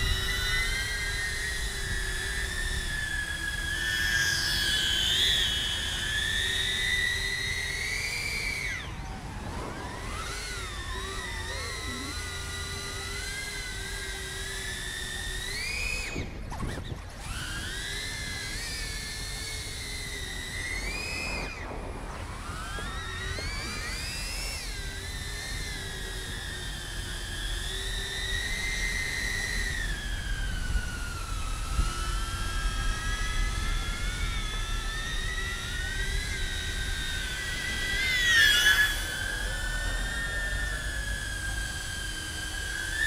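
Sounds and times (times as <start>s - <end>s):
drone propellers whining: 0.0s - 43.0s.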